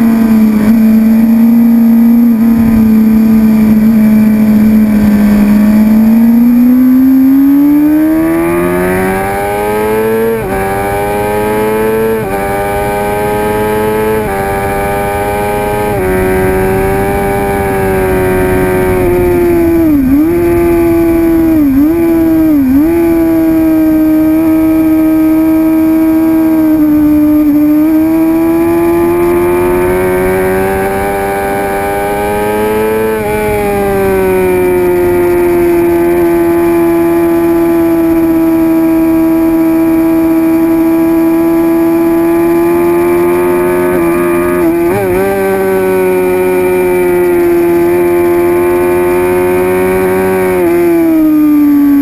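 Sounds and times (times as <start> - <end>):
motorcycle engine at high revs: 0.0 - 52.0.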